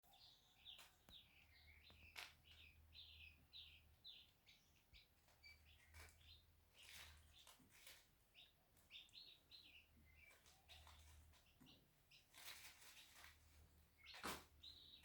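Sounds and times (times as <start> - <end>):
chick peeping: 0.1 - 15.0.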